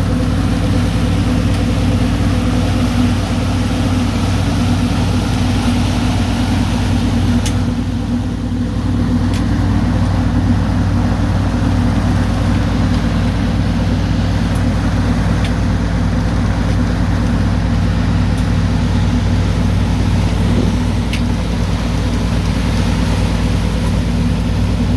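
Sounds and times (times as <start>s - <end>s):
boat engine droning: 0.0s - 24.9s.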